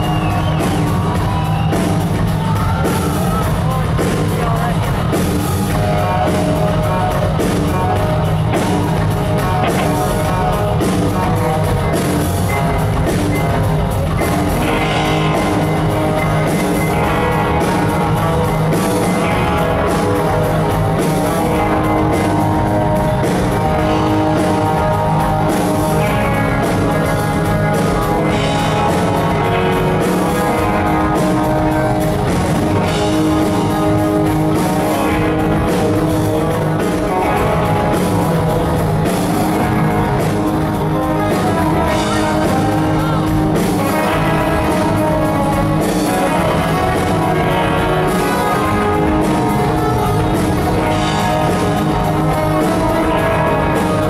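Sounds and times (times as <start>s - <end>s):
electric guitar lead sustained notes: 0.0s - 54.0s
live rock band playing: 0.0s - 54.0s.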